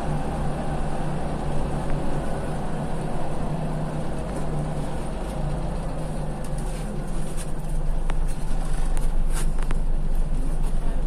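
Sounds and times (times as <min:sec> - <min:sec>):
bus engine hum: 0:00.0 - 0:11.0.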